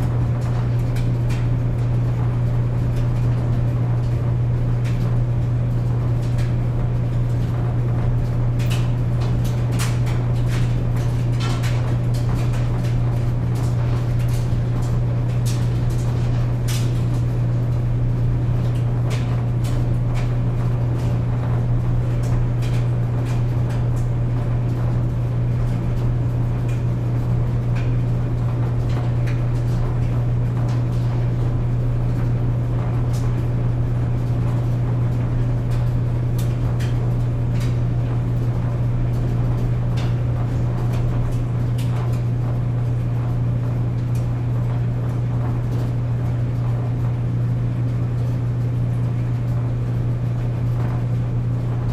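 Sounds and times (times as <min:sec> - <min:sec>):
tumbling drum clicks and knocks: 0:00.0 - 0:46.0
clothes dryer humming: 0:00.0 - 0:51.9.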